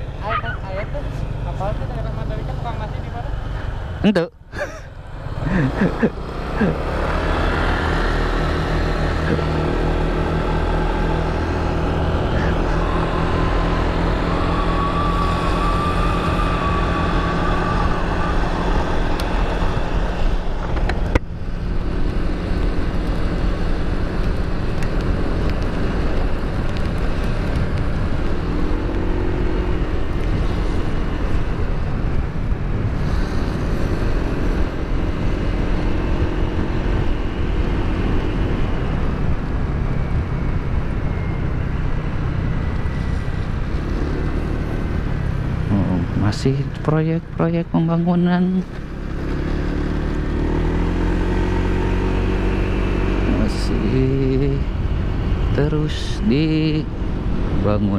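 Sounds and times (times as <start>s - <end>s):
wind noise: 7.2s - 46.2s, 48.4s - 57.9s.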